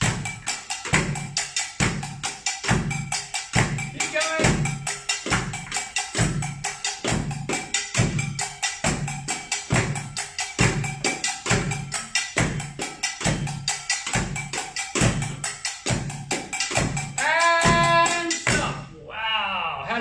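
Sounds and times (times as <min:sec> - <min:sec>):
bucket and pots struck with sticks: 0:00.0 - 0:18.9.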